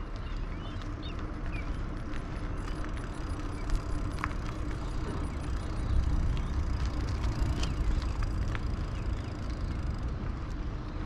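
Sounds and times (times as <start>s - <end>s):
bicycle road noise: 0.0s - 11.0s
faint ticks: 0.0s - 11.0s
wind buffeting microphone: 0.0s - 11.0s.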